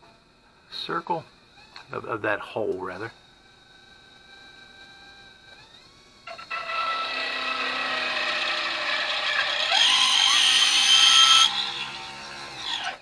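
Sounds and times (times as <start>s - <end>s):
rotary tool cutter whine: 0.0s - 13.0s.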